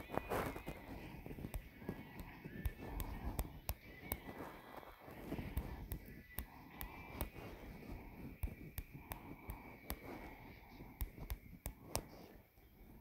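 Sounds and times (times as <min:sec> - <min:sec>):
sharp clicks and light taps: 0:00.0 - 0:12.2.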